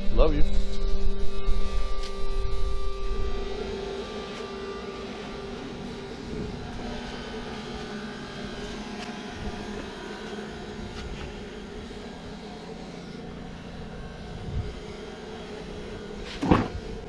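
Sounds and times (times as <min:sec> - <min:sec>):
mechanical droning hum: 0:00.0 - 0:17.0.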